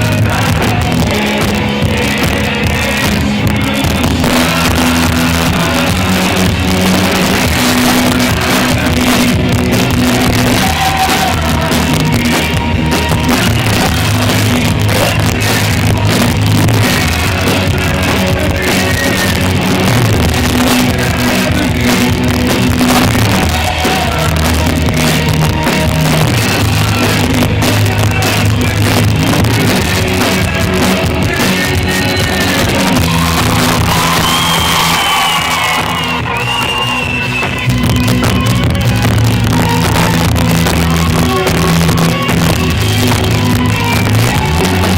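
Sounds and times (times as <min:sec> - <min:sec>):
live rock music: 0:00.0 - 0:44.9.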